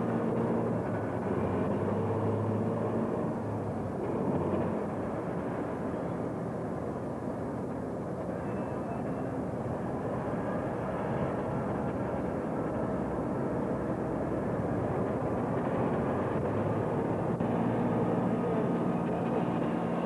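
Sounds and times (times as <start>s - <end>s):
heavy machinery rumble: 0.0s - 6.3s, 9.9s - 20.0s
low engine hum: 0.0s - 20.0s.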